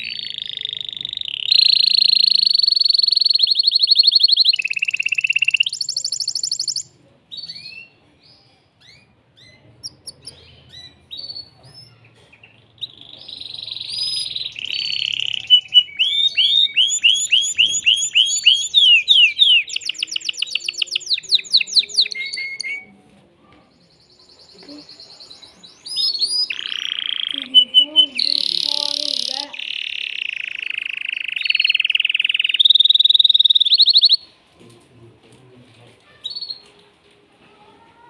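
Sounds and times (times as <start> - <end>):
canary singing: 0.0 - 23.0, 23.9 - 34.3, 36.2 - 36.8.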